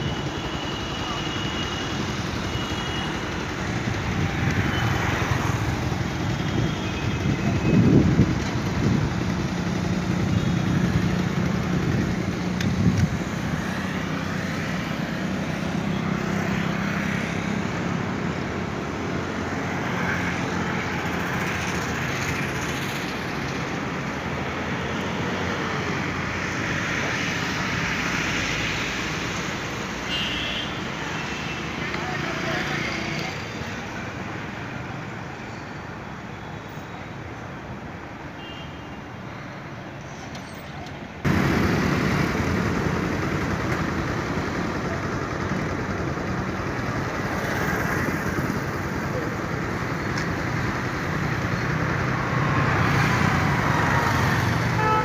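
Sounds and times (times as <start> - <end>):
engine humming steadily: 0.0 - 38.6, 40.3 - 55.0
cars and motorbikes passing: 0.0 - 55.0.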